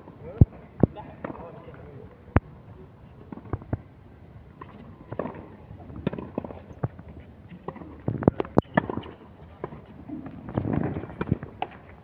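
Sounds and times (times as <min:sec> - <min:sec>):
low outdoor background: 0:00.0 - 0:12.0.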